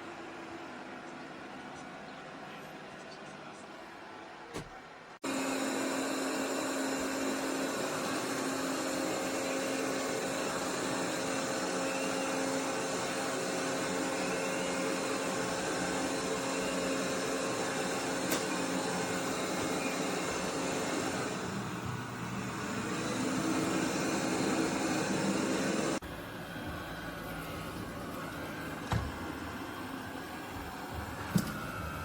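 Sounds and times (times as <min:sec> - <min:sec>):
robot vacuum running: 0:05.2 - 0:32.0.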